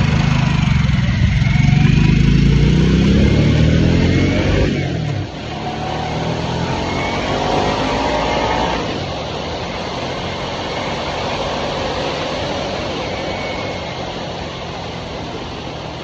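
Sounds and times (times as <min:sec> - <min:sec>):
motorcycle engine accelerating: 0:00.0 - 0:16.0
wind and road noise: 0:00.0 - 0:16.0.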